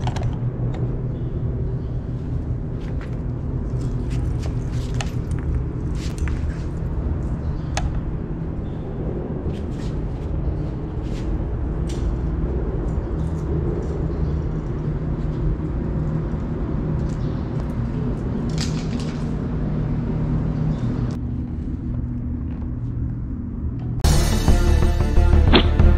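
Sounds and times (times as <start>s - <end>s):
traffic rumble on bridge: 0.0s - 24.0s.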